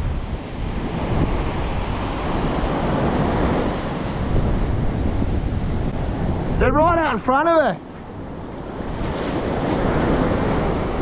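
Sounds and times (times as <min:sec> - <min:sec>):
surf breaking on the beach: 0:00.0 - 0:11.0
wind buffeting the microphone: 0:00.0 - 0:11.0.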